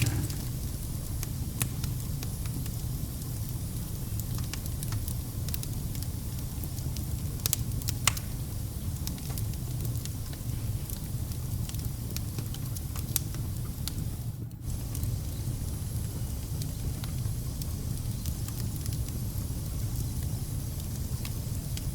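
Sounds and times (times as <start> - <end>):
fire burning in fireplace: 0.0 - 21.9.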